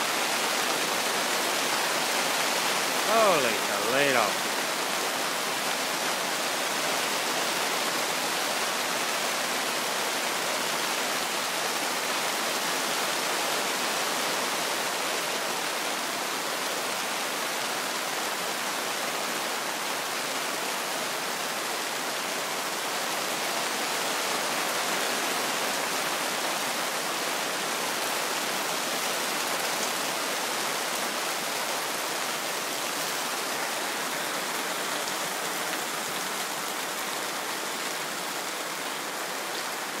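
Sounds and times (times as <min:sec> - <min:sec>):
heavy rain on a tarp: 0:00.0 - 0:40.0.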